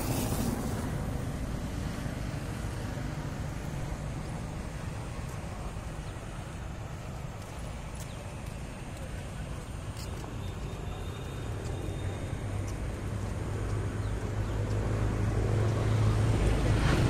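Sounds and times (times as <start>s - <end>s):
low engine rumble: 0.0s - 17.0s
traffic hiss: 0.0s - 17.0s.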